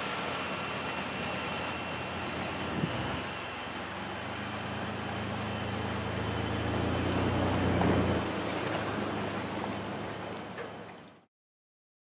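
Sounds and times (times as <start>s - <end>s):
passing vehicle engine hum: 0.0s - 10.9s.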